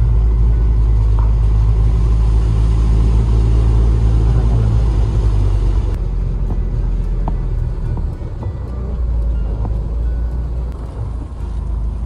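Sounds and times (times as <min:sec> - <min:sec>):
jeep engine droning: 0:00.0 - 0:12.0.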